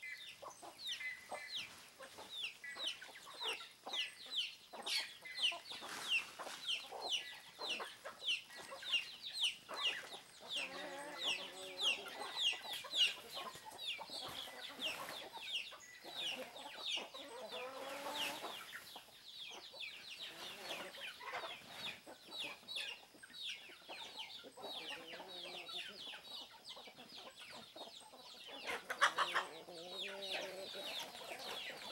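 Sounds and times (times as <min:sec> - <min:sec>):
hens calling: 0:00.0 - 0:23.2, 0:28.1 - 0:31.9
chicks peeping: 0:00.0 - 0:31.9.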